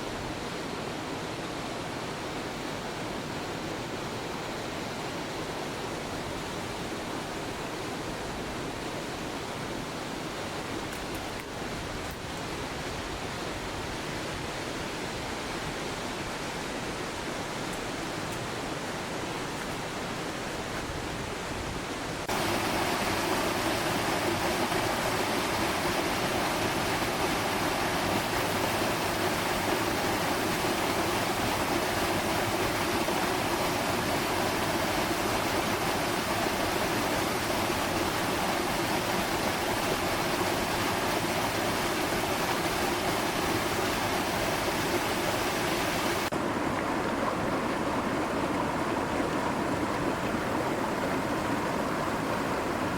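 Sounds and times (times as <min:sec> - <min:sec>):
water rushing in stream: 0:00.0 - 0:52.9.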